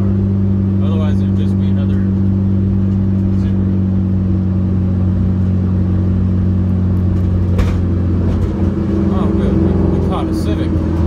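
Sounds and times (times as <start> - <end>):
car engine pulling steadily: 0.0 - 11.0.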